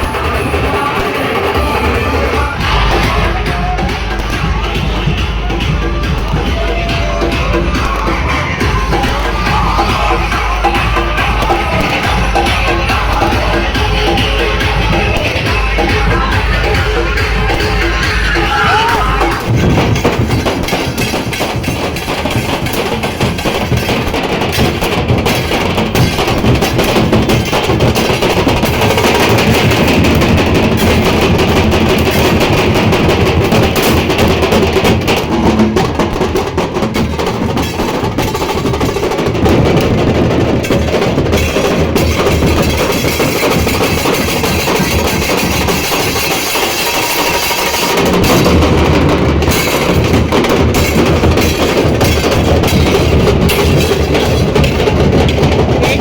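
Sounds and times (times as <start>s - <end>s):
drum-heavy music: 0.0s - 56.0s.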